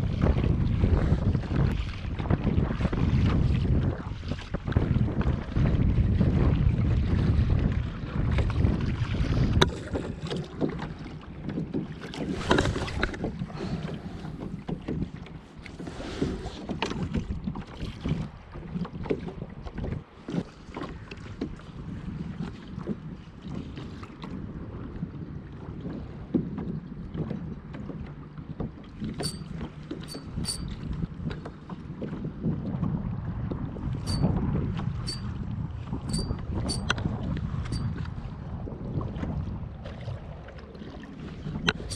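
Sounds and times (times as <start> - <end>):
water splashing against kayak hull: 0.0 - 41.9
wind buffeting microphone: 0.0 - 41.9.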